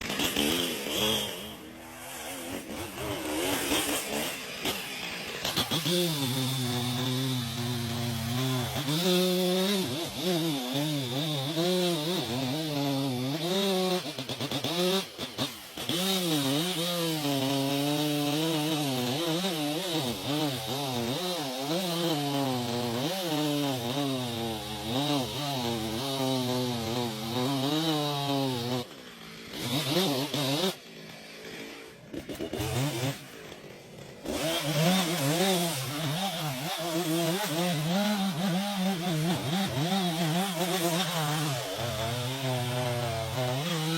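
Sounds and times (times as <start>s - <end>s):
chainsaw running and cutting: 0.0s - 43.9s.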